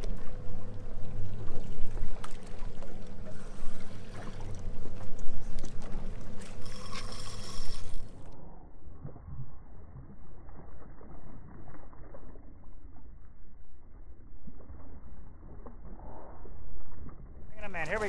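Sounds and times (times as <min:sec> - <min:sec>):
water lapping against hull: 0:00.0 - 0:16.9.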